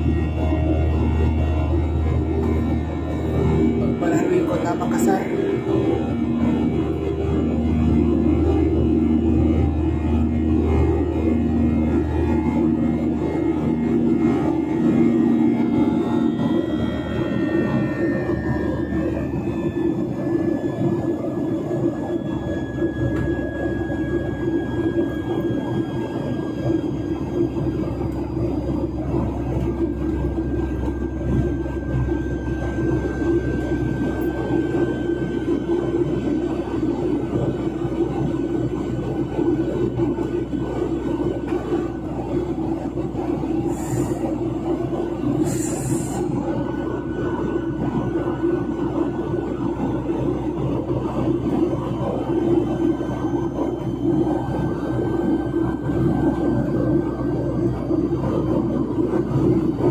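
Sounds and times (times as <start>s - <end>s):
airliner cabin drone: 0.0s - 59.9s
faint falling whine: 0.0s - 59.9s.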